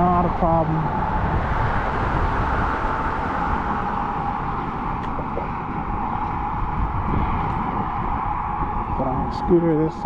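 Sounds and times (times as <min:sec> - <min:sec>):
tyre and road noise: 0:00.0 - 0:10.0
wind buffeting microphone: 0:00.0 - 0:10.0.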